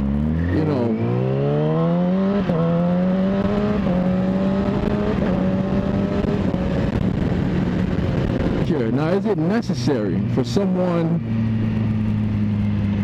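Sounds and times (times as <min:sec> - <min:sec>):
low rush of wind: 0:00.0 - 0:13.0
motorcycle engine accelerating: 0:00.0 - 0:13.0.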